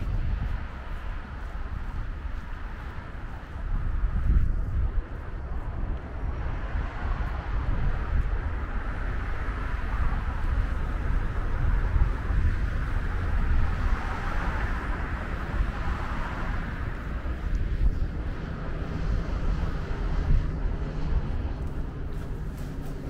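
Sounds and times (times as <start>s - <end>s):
passing vehicle hiss: 0.0s - 23.0s
road traffic rumble: 0.0s - 23.0s.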